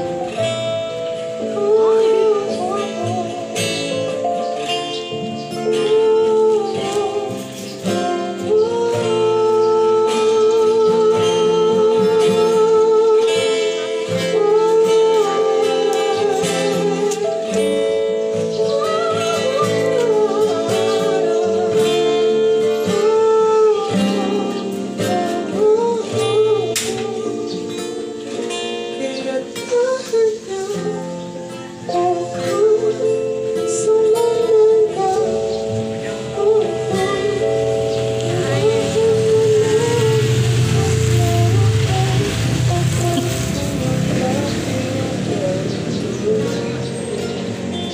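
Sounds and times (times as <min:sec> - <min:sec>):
acoustic guitar strumming: 0:00.0 - 0:47.9
person singing with vibrato: 0:00.0 - 0:47.9.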